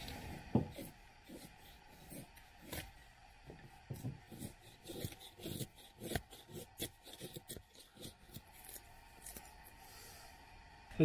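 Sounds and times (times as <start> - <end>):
knife shaving wood: 0.0 - 3.0, 4.0 - 9.8.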